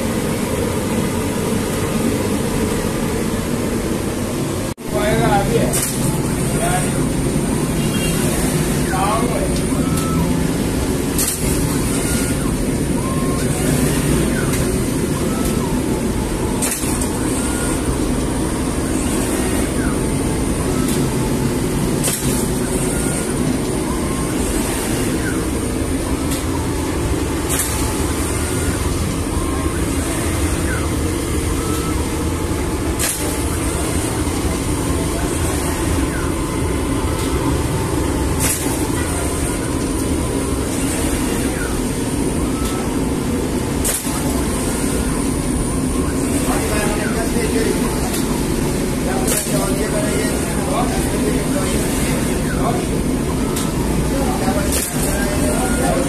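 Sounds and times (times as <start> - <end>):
machine rollers droning: 0.0 - 56.0
sharp machine clack: 5.1 - 7.2, 7.8 - 36.5, 37.1 - 41.9, 42.5 - 56.0.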